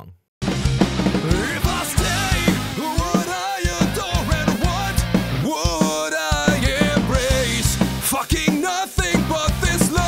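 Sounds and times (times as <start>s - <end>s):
punk rock song with vocals: 0.5s - 10.0s.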